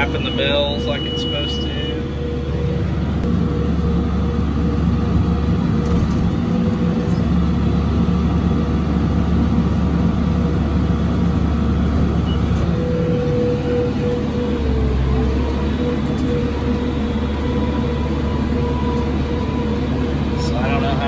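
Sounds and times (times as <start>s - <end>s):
steady whine: 0.0s - 21.0s
tractor running with baler: 0.0s - 21.0s.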